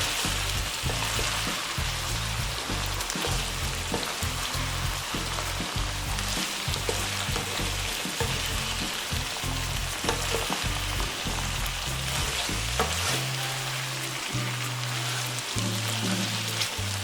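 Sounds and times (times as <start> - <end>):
background music with bass: 0.0 - 17.0
food sizzling in a pan: 0.0 - 17.0.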